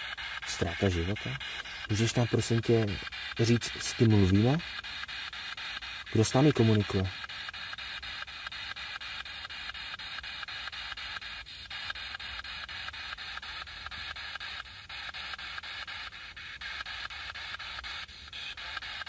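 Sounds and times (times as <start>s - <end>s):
choppy radio static: 0.0s - 19.0s.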